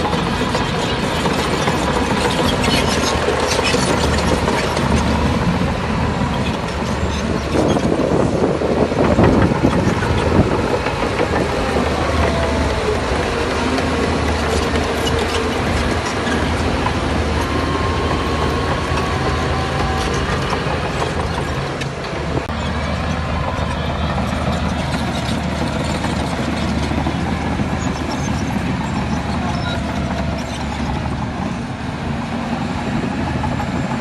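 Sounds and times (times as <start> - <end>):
bulldozer diesel engine running: 0.0 - 34.0
steel tracks clanking and rattling: 0.0 - 34.0.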